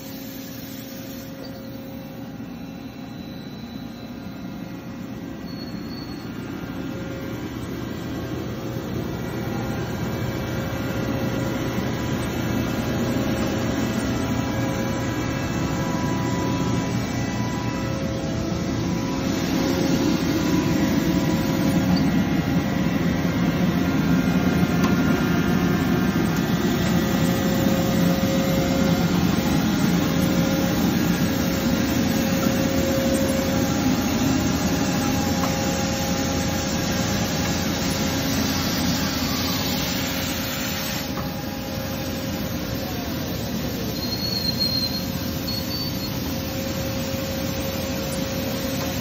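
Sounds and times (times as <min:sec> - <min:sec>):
industrial machinery humming: 0:00.0 - 0:49.0.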